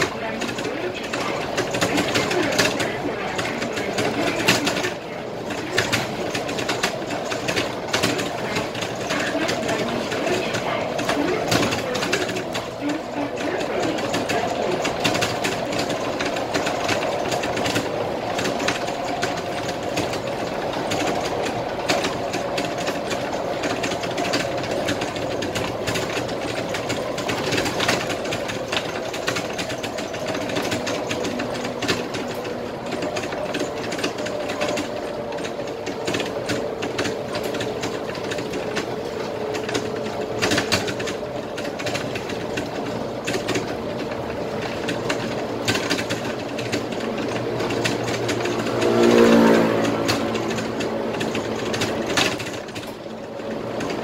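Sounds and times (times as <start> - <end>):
bus engine drone: 0.0 - 54.0
fast rattling and clicking: 0.0 - 54.0.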